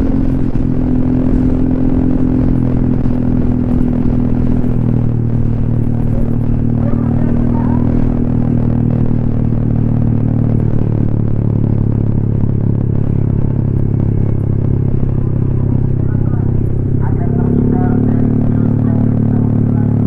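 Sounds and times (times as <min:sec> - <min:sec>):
scooter engine running: 0:00.0 - 0:20.0.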